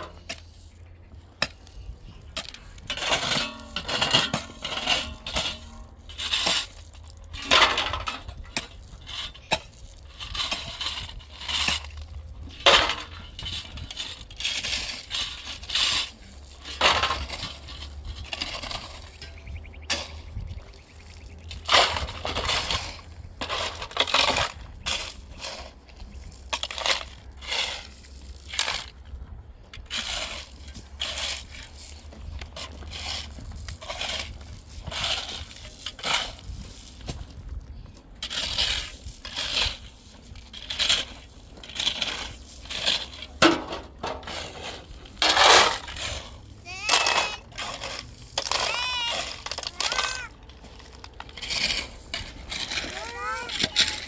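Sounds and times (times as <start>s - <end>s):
crunching and clinking: 0.0s - 54.0s.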